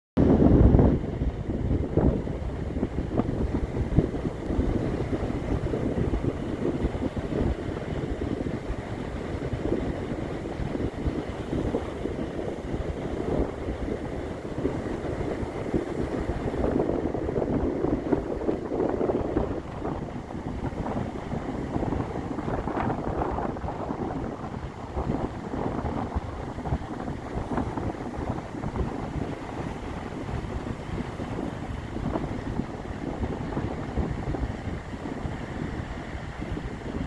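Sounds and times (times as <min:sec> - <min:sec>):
wind buffeting microphone: 0:00.2 - 0:37.0
ocean surf: 0:00.3 - 0:37.0.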